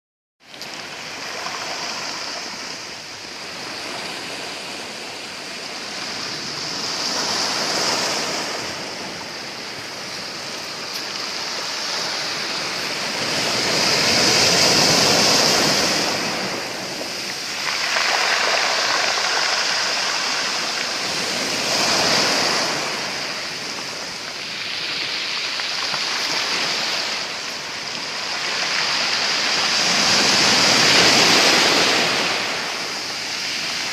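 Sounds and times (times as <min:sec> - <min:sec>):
waves washing over stones: 0:00.4 - 0:33.9.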